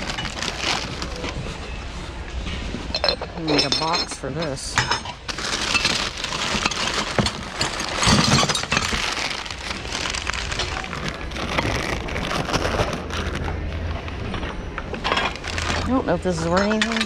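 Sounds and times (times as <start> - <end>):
objects rustling and clattering: 0.0 - 17.0.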